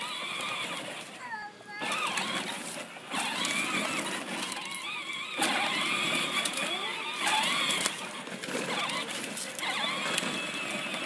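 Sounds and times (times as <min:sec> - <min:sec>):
toy tractor motor whining: 0:00.0 - 0:11.0.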